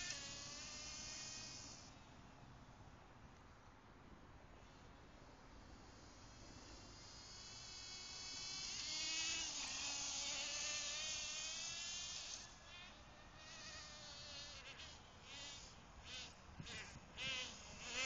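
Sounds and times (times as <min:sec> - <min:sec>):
model race car engine whine: 0:00.0 - 0:02.1, 0:04.7 - 0:18.0.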